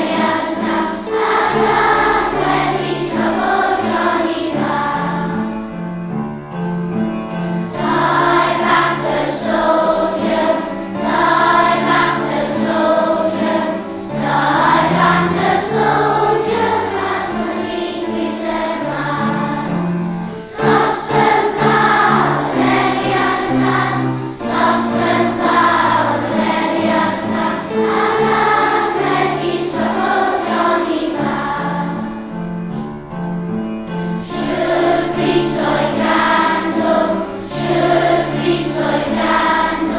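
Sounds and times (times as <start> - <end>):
choir singing: 0.0 - 6.2, 7.3 - 32.8, 33.9 - 39.9
musical accompaniment with bass: 0.0 - 39.9.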